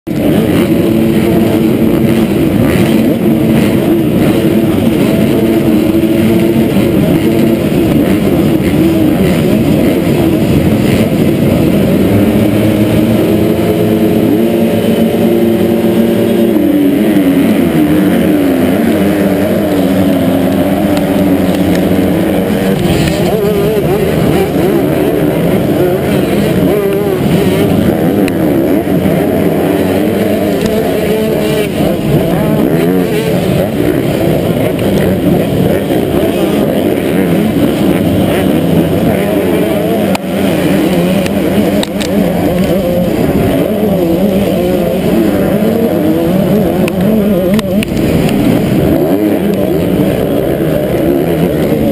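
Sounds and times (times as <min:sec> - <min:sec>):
motocross bike engines revving: 0:00.0 - 0:51.9.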